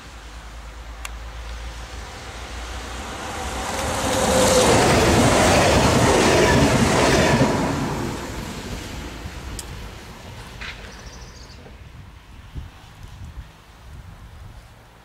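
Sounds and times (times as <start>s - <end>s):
train passing at speed: 0.0s - 13.2s.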